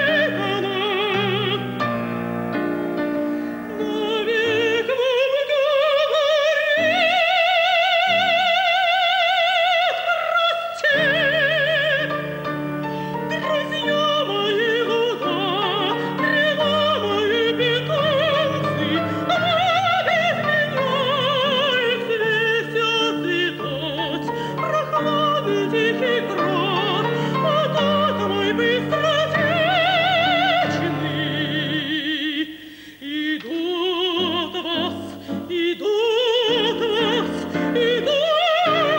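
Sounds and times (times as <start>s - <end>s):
operatic soprano singing: 0.0s - 38.9s.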